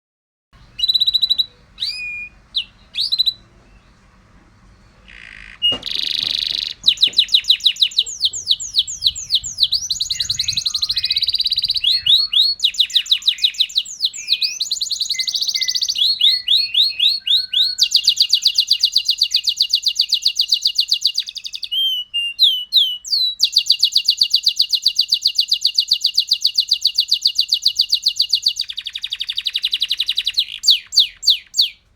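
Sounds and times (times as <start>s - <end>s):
canary singing trills: 0.6s - 31.9s.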